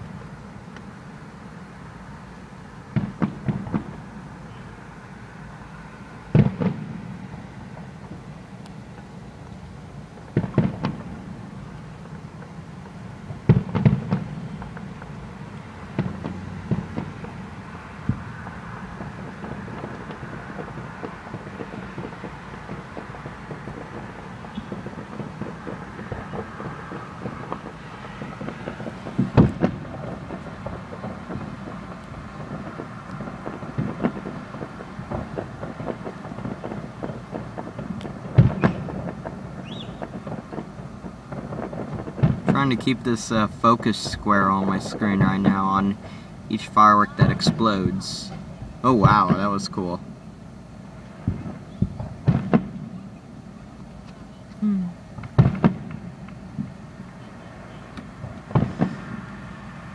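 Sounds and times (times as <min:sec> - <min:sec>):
fireworks booming: 0:00.0 - 0:59.9
low background rumble: 0:00.0 - 0:59.9.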